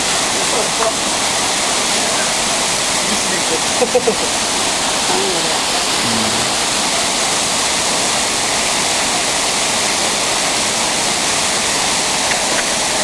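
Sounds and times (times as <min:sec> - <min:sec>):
rushing falling water: 0:00.0 - 0:13.0.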